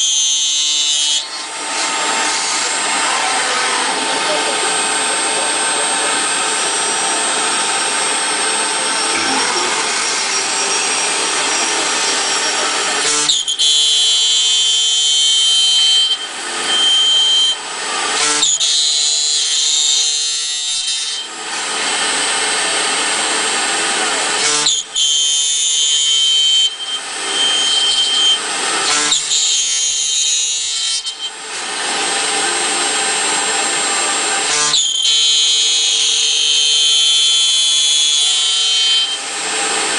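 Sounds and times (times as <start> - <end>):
router spindle milling metal: 0.0 - 39.9.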